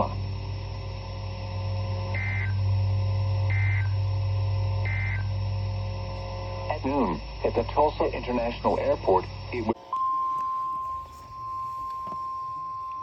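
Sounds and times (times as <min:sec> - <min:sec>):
buzzy data bursts: 0:00.0 - 0:13.0
steady low hum: 0:00.0 - 0:13.0.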